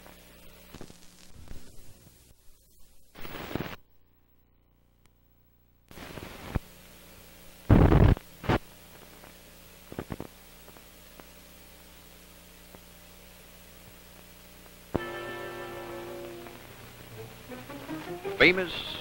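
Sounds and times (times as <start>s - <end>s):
tape hiss and crackle: 0.0s - 19.0s
steady low hum: 3.8s - 19.0s.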